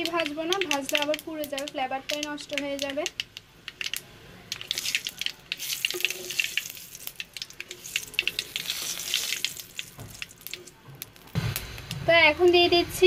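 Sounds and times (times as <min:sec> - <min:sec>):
spatula stirring in pan: 0:00.0 - 0:11.3
spices sizzling and popping in oil: 0:00.0 - 0:13.0.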